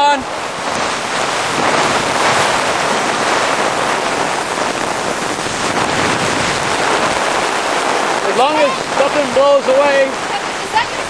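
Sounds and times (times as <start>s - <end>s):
heavy rain on tarp: 0.0s - 11.0s.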